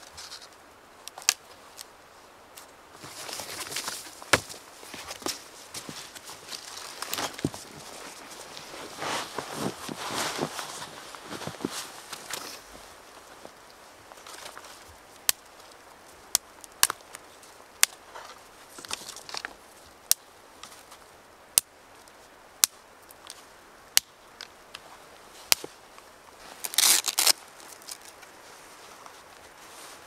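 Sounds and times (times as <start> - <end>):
twigs rustling and crackling: 0.0 - 30.0
dry branches snapping: 0.2 - 1.9, 2.6 - 12.6, 13.6 - 21.0, 21.6 - 24.8, 25.5 - 28.3.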